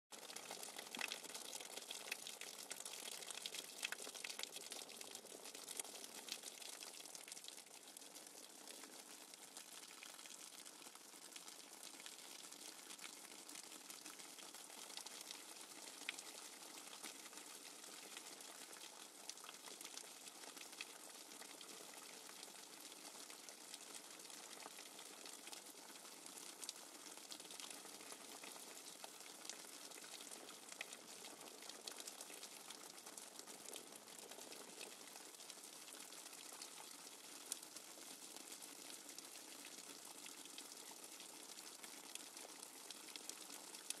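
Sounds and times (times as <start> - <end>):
dense patter of raindrops: 0.1 - 44.0.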